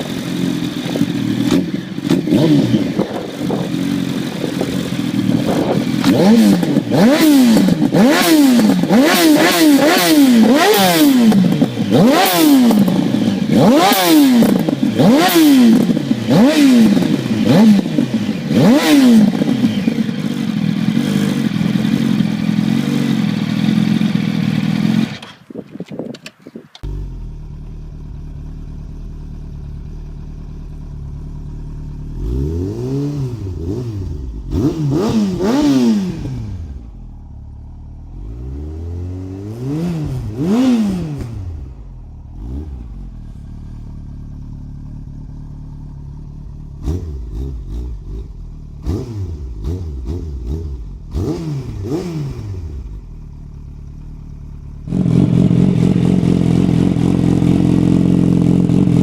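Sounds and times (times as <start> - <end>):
motorcycle engine revving: 0.0 - 25.5, 26.8 - 59.0.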